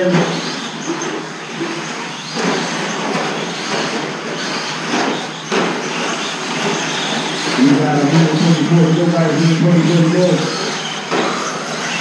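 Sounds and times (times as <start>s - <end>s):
high motor whine: 0.0s - 12.0s
rc trucks racing on dirt: 0.0s - 12.0s.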